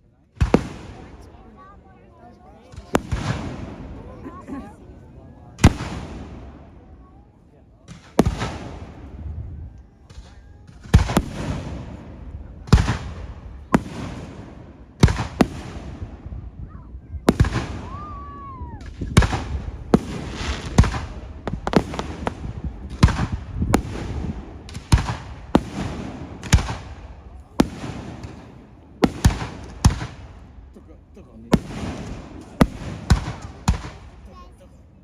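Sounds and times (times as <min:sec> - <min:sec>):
fireworks bangs with echo: 0:00.4 - 0:02.0, 0:02.6 - 0:04.8, 0:05.6 - 0:07.2, 0:07.8 - 0:34.6.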